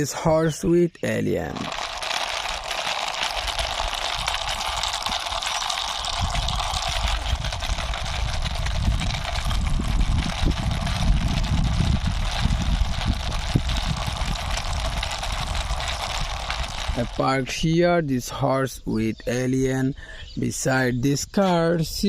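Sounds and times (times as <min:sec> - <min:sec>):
plastic toy vehicle rolling: 0:00.1 - 0:19.9.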